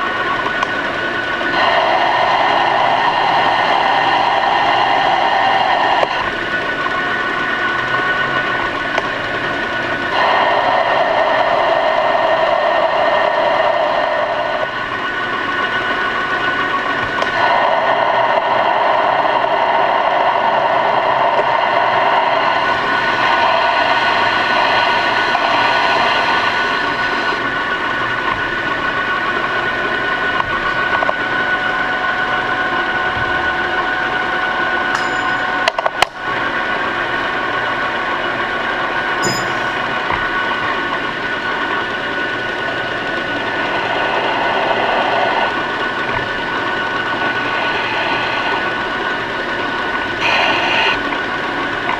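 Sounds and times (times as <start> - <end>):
metal lathe whining: 0.0 - 51.9.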